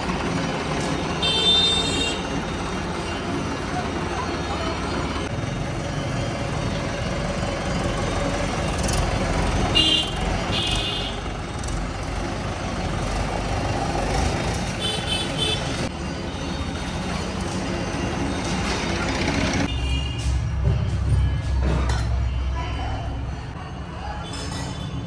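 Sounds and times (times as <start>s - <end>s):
tractor engine rumbling: 0.0s - 25.0s.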